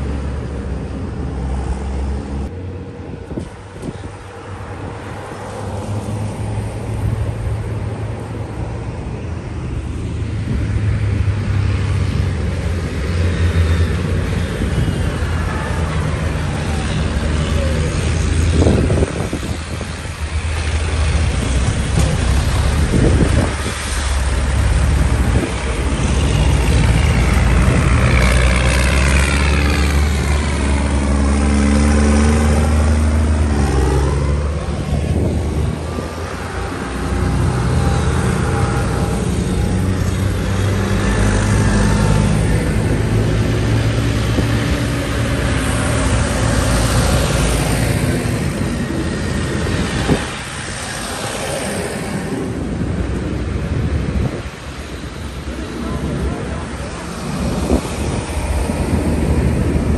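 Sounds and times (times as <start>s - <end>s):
tractor engines driving past: 0.0s - 59.9s.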